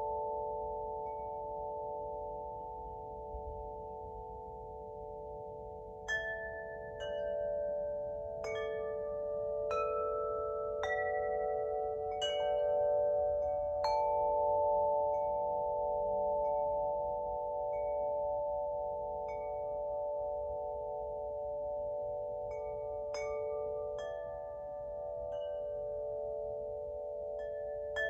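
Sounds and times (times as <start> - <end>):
wind chime ringing: 0.0 - 28.0.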